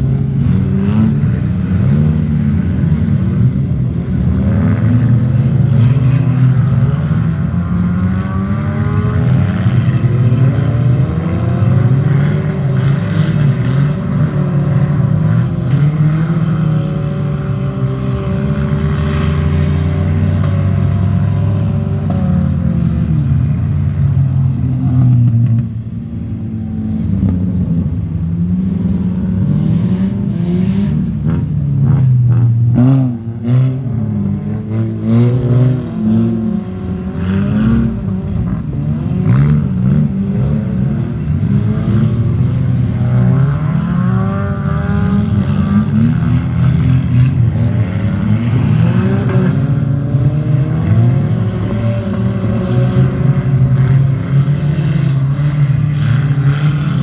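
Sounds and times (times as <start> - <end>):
race car engines revving: 0.0 - 57.0.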